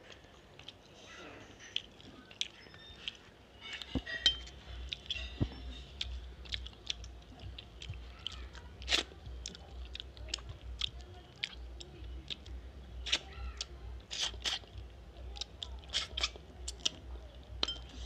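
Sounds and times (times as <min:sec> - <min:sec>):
close chewing and mouth clicks: 0:00.0 - 0:18.0.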